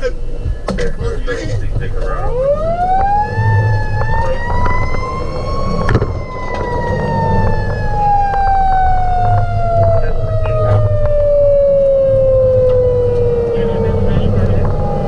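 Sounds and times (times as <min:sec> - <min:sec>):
truck engine rumble: 0:00.0 - 0:15.0
fire engine siren wailing: 0:01.8 - 0:15.0.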